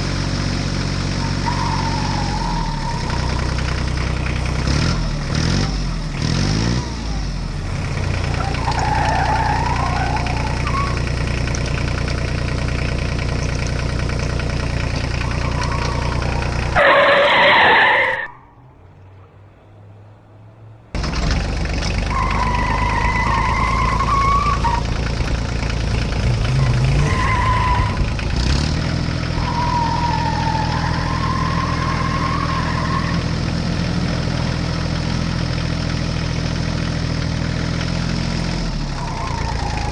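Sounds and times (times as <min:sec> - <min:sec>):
heavy engine idling hum: 0:00.0 - 0:06.2, 0:06.8 - 0:39.9.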